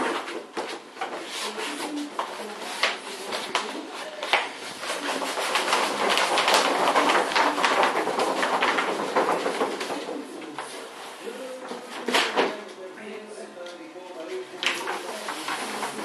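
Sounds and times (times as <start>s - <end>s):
vinyl film crackling and rustling: 0.0s - 12.9s, 13.6s - 16.0s.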